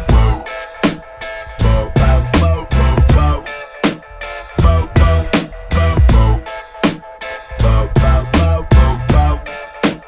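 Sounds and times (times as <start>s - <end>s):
upbeat music with plucked guitar: 0.0s - 10.0s.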